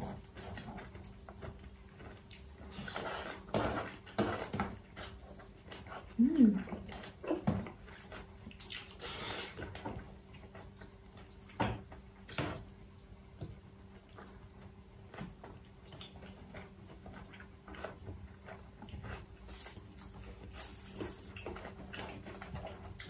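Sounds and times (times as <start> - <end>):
chewing and mouth noises: 0.1 - 11.6, 13.6 - 23.0.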